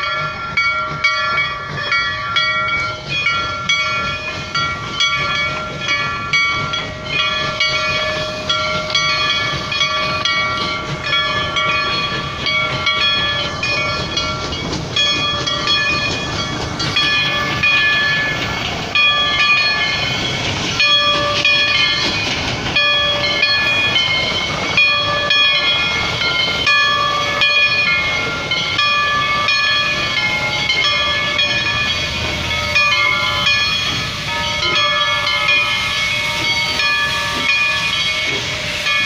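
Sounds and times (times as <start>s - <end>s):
steam hissing: 0.0s - 39.0s.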